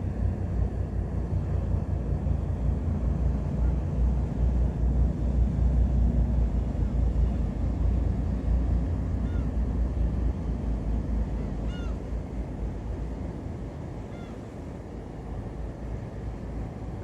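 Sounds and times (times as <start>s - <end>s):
ship engine rumble: 0.0s - 17.0s.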